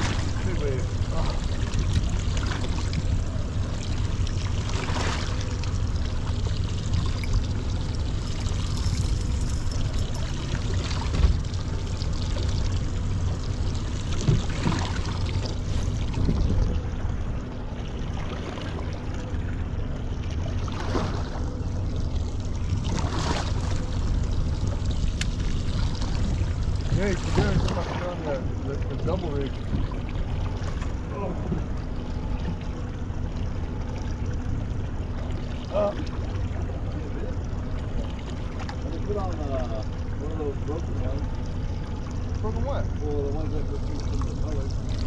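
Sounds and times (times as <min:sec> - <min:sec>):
steady low hum: 0:00.0 - 0:45.0
water splashing against boat hull: 0:00.0 - 0:45.0.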